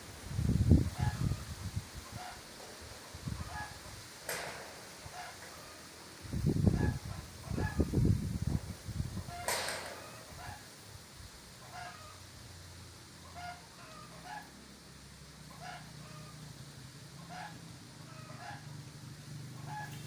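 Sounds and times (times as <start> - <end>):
chickens calling: 0.7 - 10.8, 11.5 - 12.5, 13.1 - 14.8, 15.4 - 20.0.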